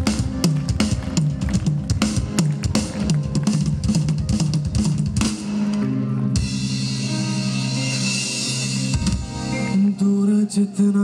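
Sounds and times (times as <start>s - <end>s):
drum kit beating quickly: 0.0s - 5.8s, 6.4s - 9.9s
live rock band playing: 0.0s - 10.6s.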